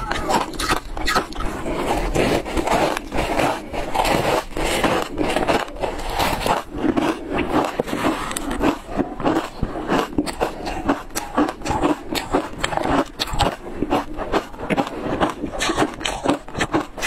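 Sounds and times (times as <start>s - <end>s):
crunching shaved ice: 0.0s - 17.0s.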